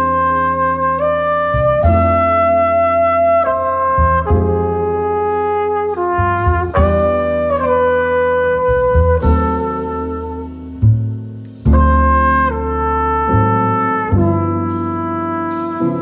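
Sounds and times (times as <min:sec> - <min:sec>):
jazz music: 0:00.0 - 0:16.0.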